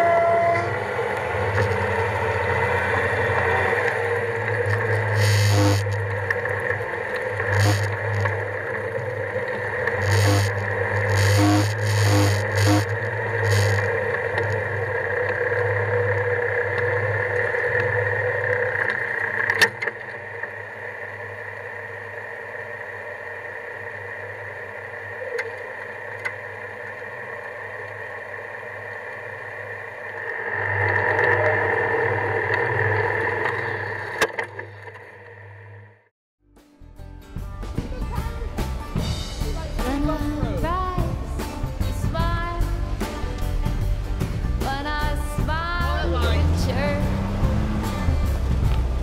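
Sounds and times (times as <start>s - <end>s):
vehicle engine humming: 0.0s - 35.9s, 36.9s - 49.0s.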